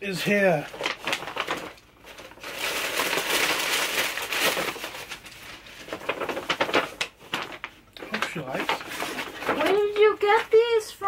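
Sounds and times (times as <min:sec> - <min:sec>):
paper bag crinkling and rustling: 0:00.1 - 0:10.8.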